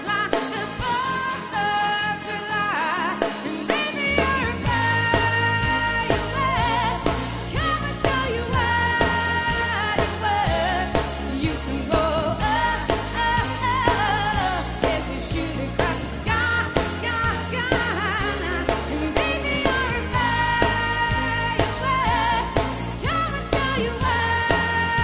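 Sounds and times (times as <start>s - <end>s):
drums with steady beat: 0.0s - 25.0s
keyboards: 0.0s - 25.0s
woman singing: 0.0s - 25.0s.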